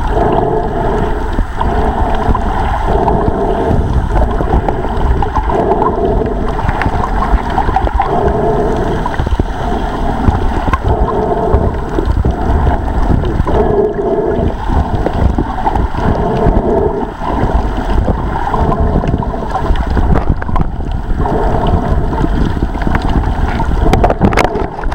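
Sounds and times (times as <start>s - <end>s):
muffled underwater seawater rumble: 0.0s - 24.9s.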